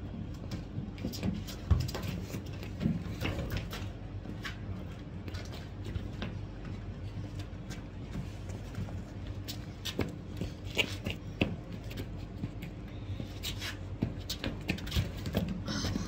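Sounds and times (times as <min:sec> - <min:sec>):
footsteps scuffing on paving: 0:00.5 - 0:15.5.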